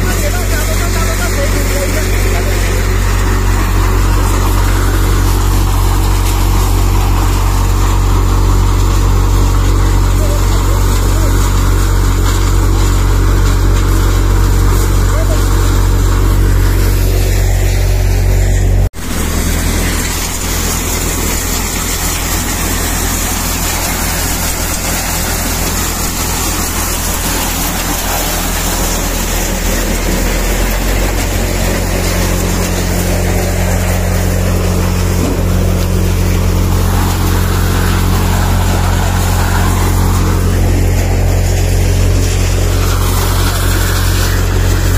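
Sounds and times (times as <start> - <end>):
farm machine engine drone: 0.0 - 44.9.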